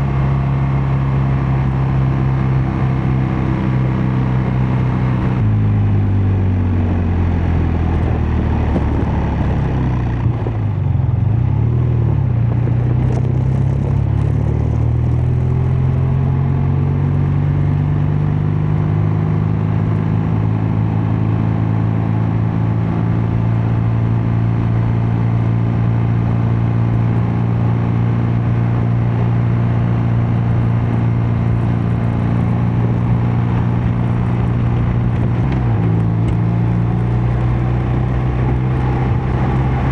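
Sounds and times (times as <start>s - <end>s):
wind noise: 0.0s - 17.1s, 22.3s - 39.9s
motorcycle exhaust cruising: 0.0s - 39.9s.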